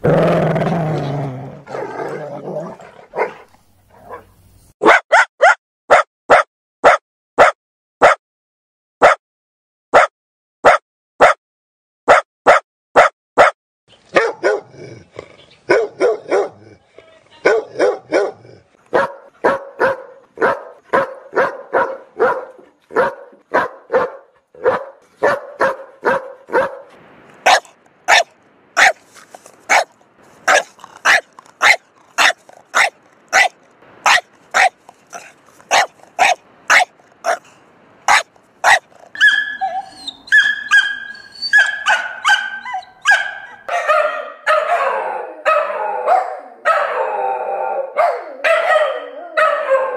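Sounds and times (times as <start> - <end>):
dogs barking: 2.6 - 8.2, 10.0 - 11.4, 12.1 - 14.8, 15.7 - 16.8, 17.4 - 29.0, 29.7 - 37.5, 38.1 - 49.9.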